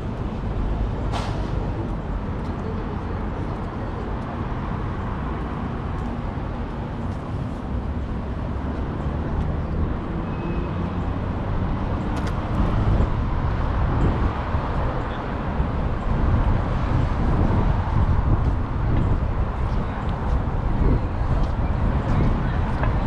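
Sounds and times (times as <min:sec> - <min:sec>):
hum of passing cars: 0:00.0 - 0:23.0.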